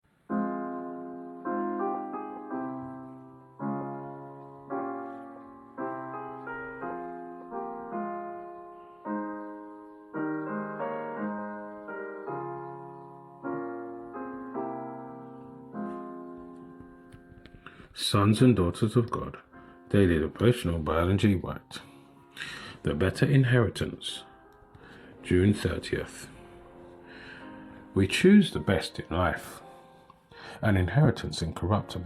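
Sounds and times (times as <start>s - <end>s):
soft piano chords: 0.1s - 32.0s.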